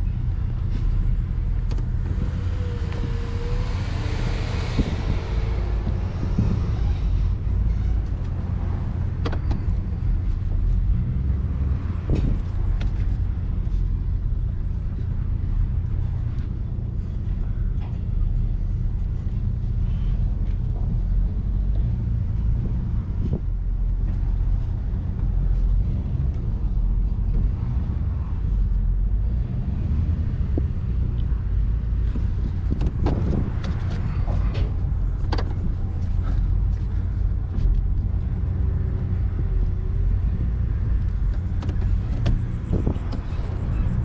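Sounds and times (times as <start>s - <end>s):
vehicle engine rumbling: 0.0s - 44.0s.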